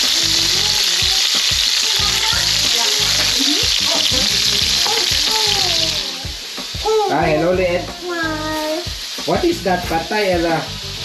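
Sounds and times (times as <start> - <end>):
sausages sizzling in hot oil: 0.0 - 11.0.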